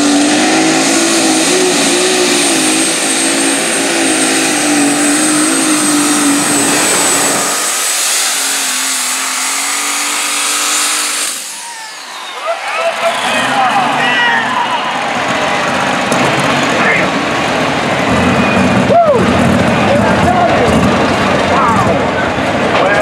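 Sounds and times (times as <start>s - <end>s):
diesel engine at full power: 0.0s - 23.0s
steady high whine: 0.0s - 23.0s.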